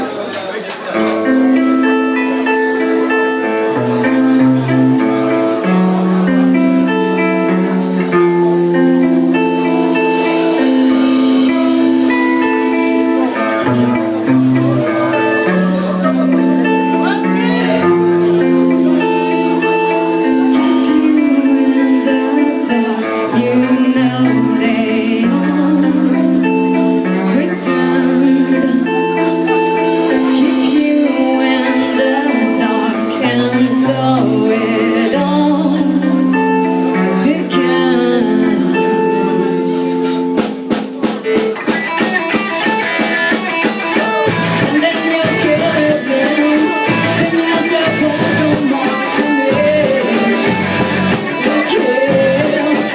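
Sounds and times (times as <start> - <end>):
rock band playing: 0.0 - 52.9.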